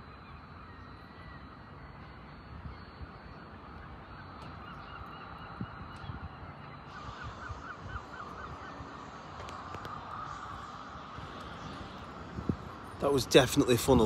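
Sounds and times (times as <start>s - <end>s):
birds calling in quick runs: 0.0s - 14.0s
steady background noise: 0.0s - 14.0s.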